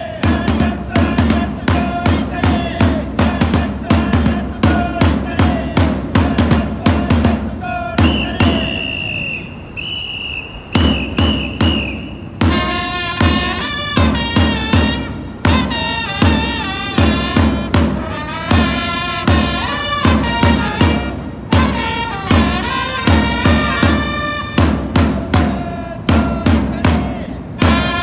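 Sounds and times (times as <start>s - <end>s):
large drum beat: 0.0s - 8.9s, 10.7s - 28.0s
trumpets playing in unison: 0.0s - 28.0s.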